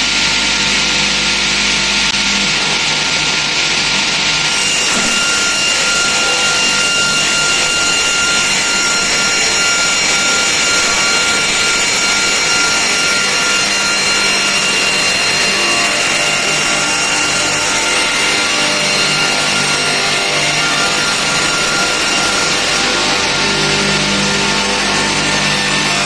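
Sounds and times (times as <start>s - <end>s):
circular saw cutting wood: 0.0s - 26.0s.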